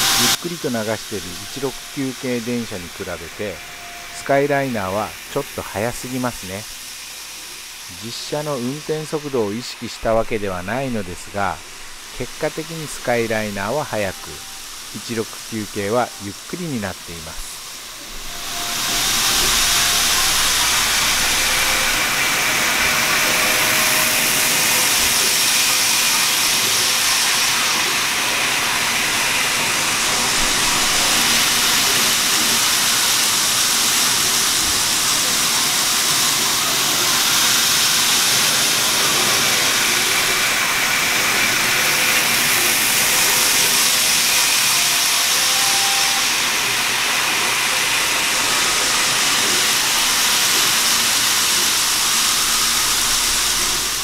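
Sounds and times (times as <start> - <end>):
faint motor whine: 0.0 - 54.0
model trains whirring on track: 0.0 - 54.0.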